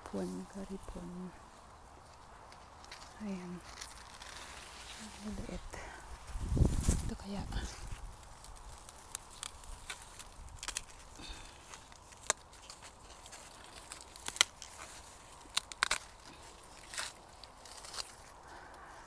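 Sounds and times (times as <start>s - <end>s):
corn leaves rustling: 0.0s - 19.0s.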